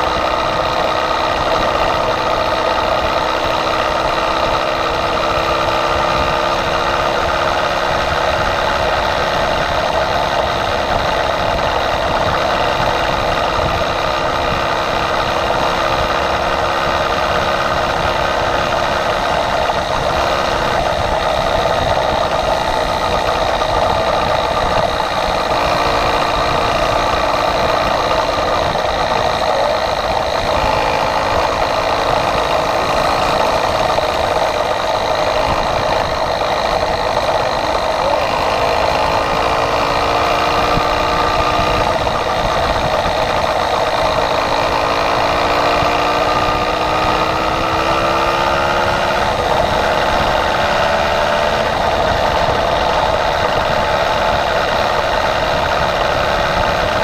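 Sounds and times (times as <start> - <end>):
rough wind noise: 0.0 - 57.0
small motorized bicycle engine: 0.0 - 57.0.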